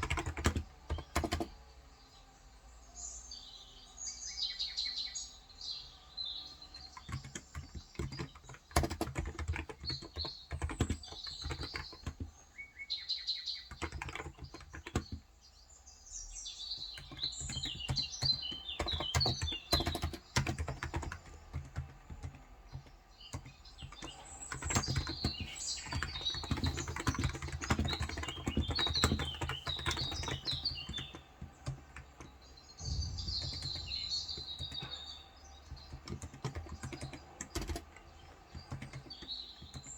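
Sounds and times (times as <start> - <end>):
typing on keyboard: 0.0 - 1.6, 6.6 - 12.4, 13.6 - 15.3, 16.7 - 39.9
birds chirping: 0.0 - 39.9.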